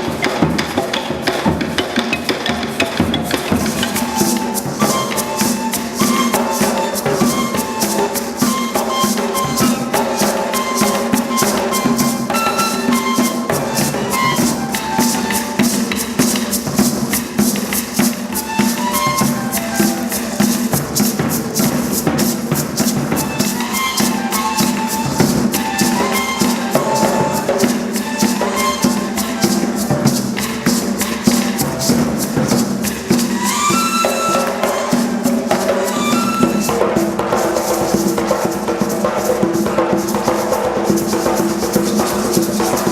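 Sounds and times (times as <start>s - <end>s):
shaken and struck percussion: 0.0s - 42.9s.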